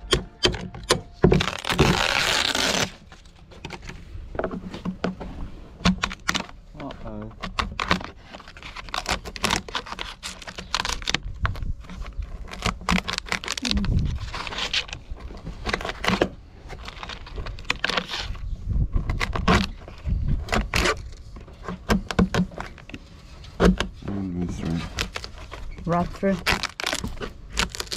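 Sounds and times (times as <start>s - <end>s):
wood cracking: 0.0s - 5.2s, 5.8s - 27.9s
chisel scraping and prying wood: 0.0s - 27.9s.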